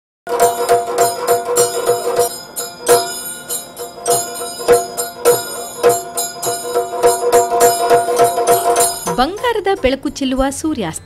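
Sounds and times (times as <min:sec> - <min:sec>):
metallic percussion strikes: 0:00.3 - 0:11.0.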